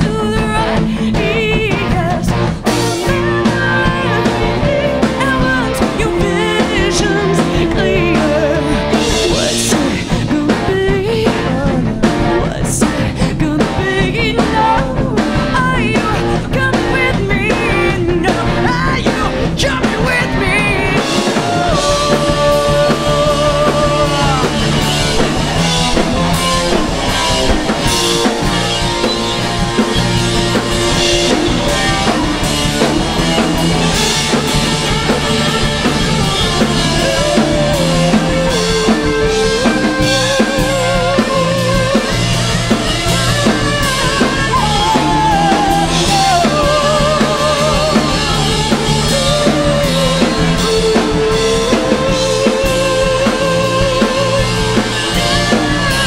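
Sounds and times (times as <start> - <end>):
live rock band playing: 0.0 - 56.0
wavering guitar lead line: 0.0 - 56.0.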